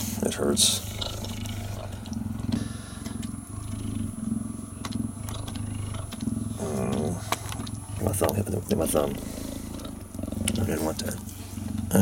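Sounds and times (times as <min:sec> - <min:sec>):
cheetah purring: 0:00.0 - 0:12.0.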